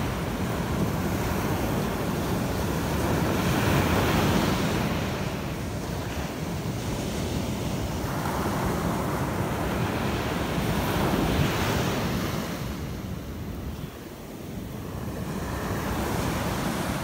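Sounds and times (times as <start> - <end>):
surf washing on beach: 0.0 - 17.0.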